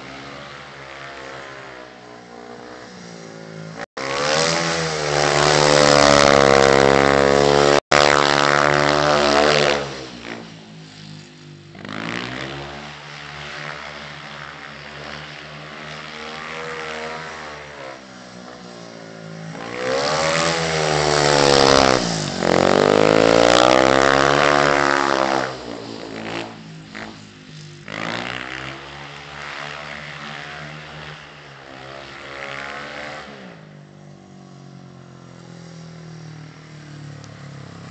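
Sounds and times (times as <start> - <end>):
motorcycle engine passing: 0.0 - 34.5, 35.1 - 37.9.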